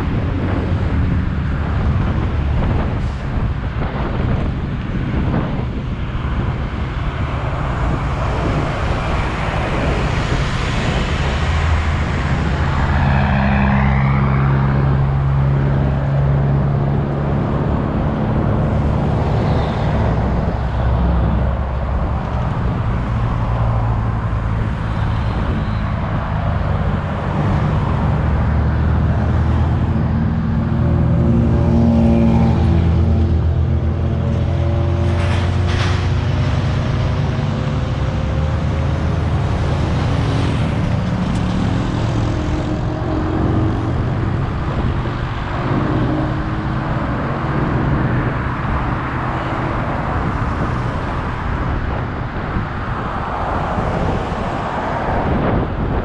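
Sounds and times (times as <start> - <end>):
highway traffic: 0.0 - 56.0.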